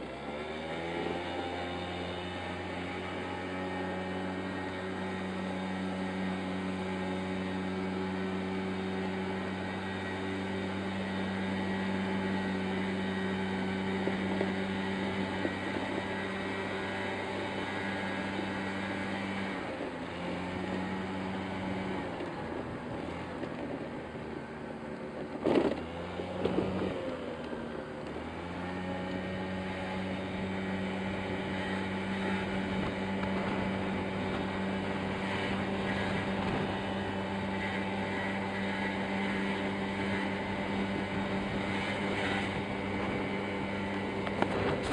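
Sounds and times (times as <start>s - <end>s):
scooter engine running: 0.0s - 44.9s.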